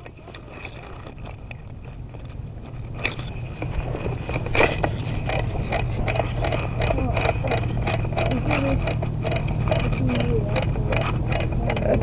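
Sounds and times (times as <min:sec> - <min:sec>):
scraping and crackling clicks: 0:00.0 - 0:12.0.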